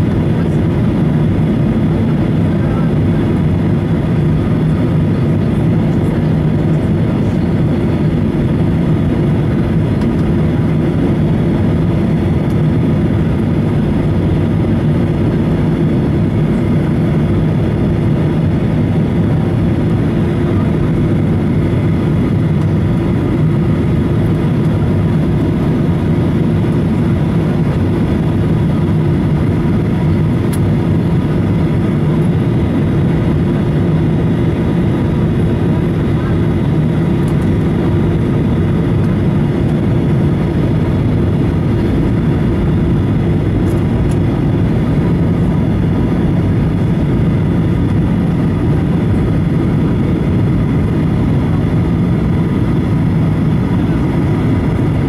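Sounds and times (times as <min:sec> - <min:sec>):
jet engine hum: 0:00.0 - 0:55.0.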